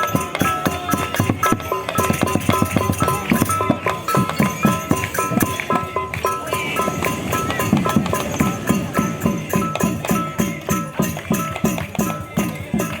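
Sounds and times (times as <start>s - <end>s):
music with steady beat: 0.0s - 13.0s
ringing melody: 0.0s - 13.0s.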